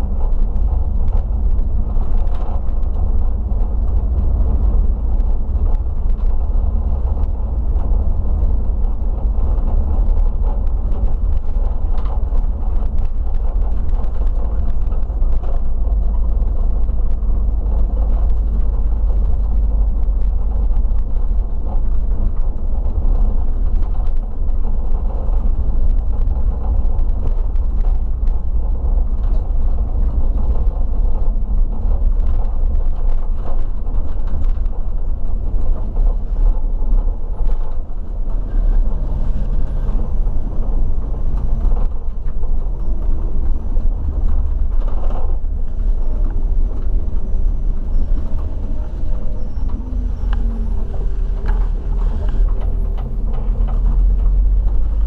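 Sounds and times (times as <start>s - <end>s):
bus engine and road rumble: 0.0s - 55.0s
light rattles and clicks: 0.0s - 55.0s.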